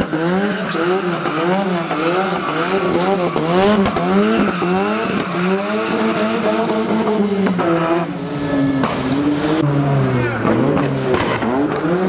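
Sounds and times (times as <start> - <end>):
rally car engine revving hard: 0.0 - 12.0.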